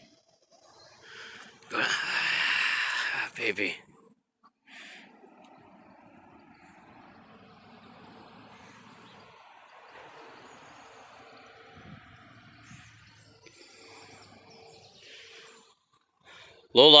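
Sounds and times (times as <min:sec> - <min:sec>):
outdoor low rumble: 0:00.0 - 0:16.5.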